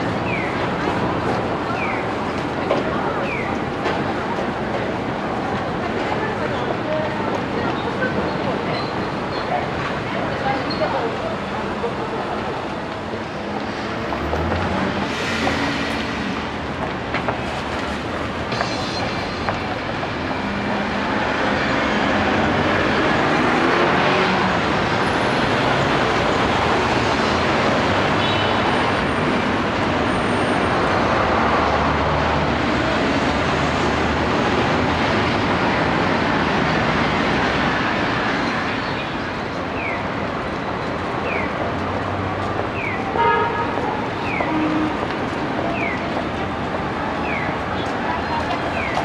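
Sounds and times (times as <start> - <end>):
city street traffic: 0.0 - 49.0
streetcar running on rails: 0.0 - 49.0.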